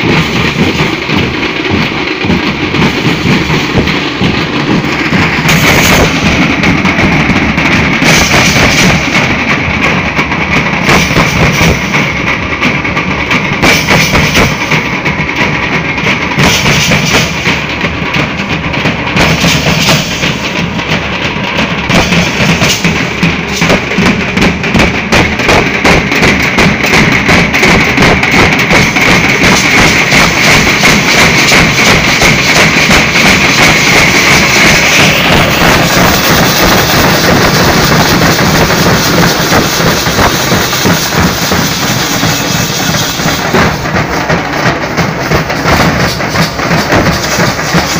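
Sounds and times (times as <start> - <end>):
barrel drums beaten in dense rhythm: 0.0 - 47.9.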